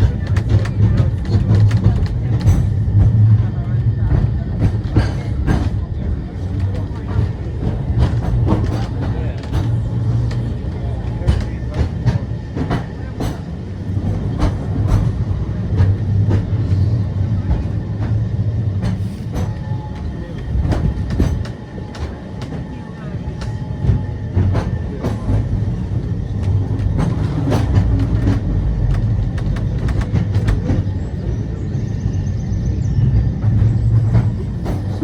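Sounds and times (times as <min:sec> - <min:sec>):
tramcar rumbling with clicks: 0:00.0 - 0:35.0.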